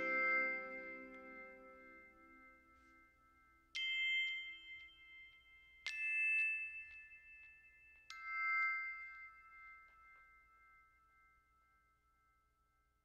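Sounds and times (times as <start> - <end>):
bell-like chime notes: 0.0 - 11.0.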